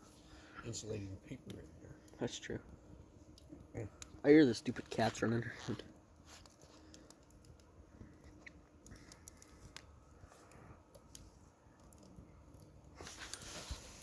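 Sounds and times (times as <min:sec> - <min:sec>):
fire crackling and ticking: 0:00.0 - 0:14.0.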